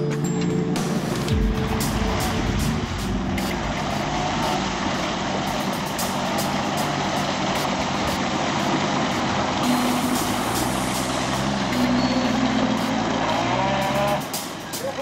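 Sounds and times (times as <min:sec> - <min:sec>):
off-road engine running hard: 0:00.4 - 0:15.0.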